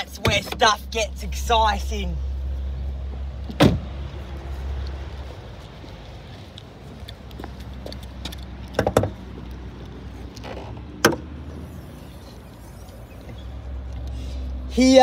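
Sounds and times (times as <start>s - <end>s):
low steady background rumble: 0.0s - 15.0s.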